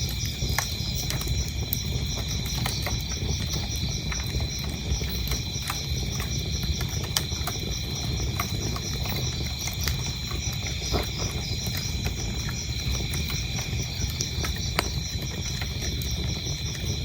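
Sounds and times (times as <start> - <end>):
crickets chirping: 0.0 - 17.0
wood fire crackling: 0.0 - 17.0.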